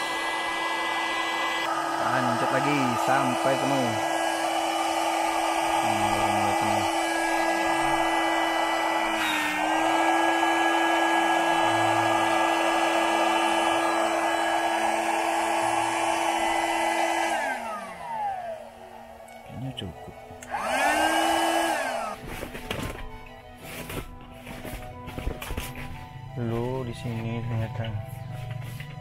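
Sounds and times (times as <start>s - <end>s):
electric air pump whining: 0.0s - 29.0s.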